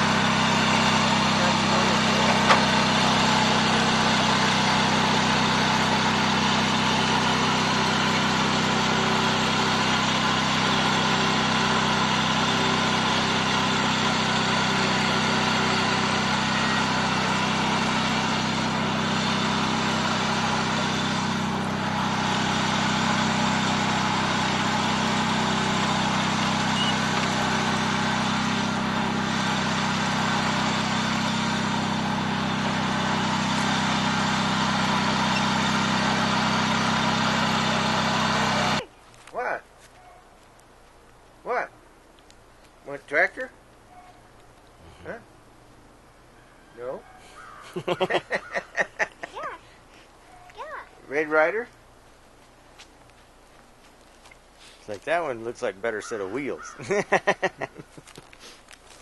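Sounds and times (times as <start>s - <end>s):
lawn tractor engine running: 0.0s - 46.2s, 47.4s - 59.0s.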